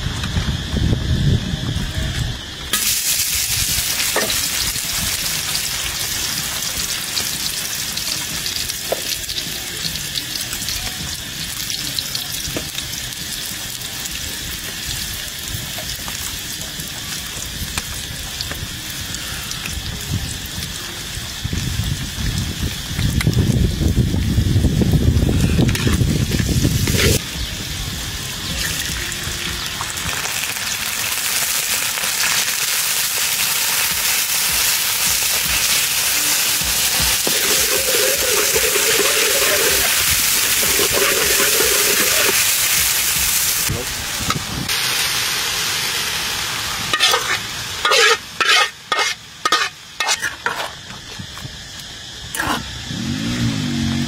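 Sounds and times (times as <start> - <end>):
food sizzling in hot oil: 2.7 - 50.9.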